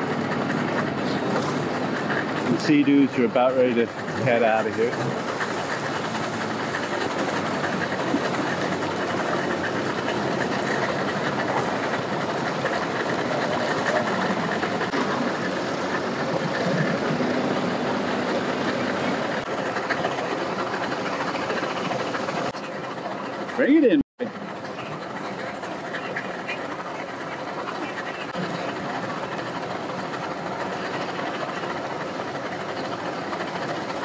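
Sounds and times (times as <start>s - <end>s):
outboard motor idling roughly: 0.0s - 34.0s.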